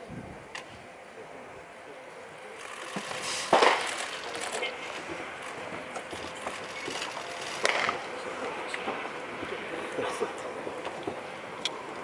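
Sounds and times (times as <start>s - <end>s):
faint background murmur: 0.0s - 12.0s.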